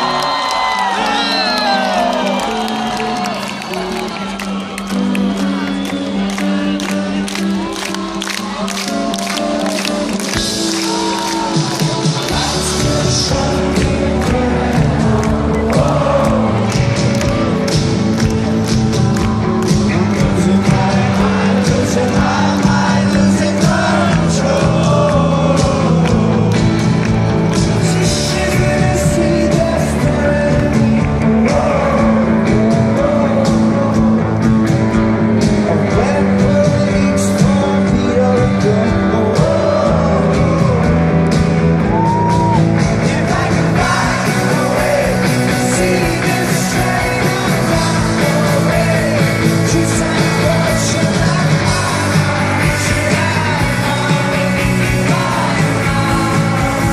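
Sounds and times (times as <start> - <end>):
bass guitar: 0.0 - 56.9
electric guitars: 0.0 - 56.9
male singer: 5.0 - 56.9.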